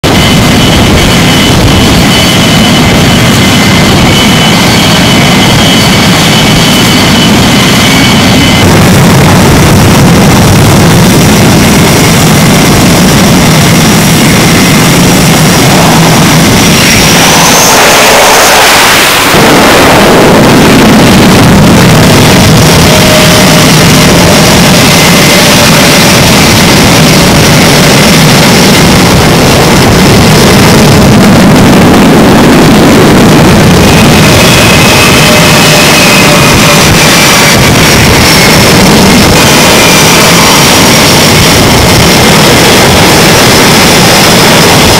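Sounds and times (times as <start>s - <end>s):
jet engines roaring with high whine: 0.0s - 44.9s.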